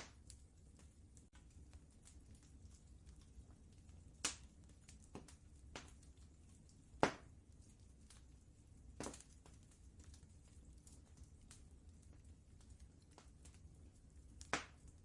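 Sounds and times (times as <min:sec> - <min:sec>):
faint low rumble: 0:00.0 - 0:15.0
wood fire crackling and popping: 0:00.0 - 0:15.0.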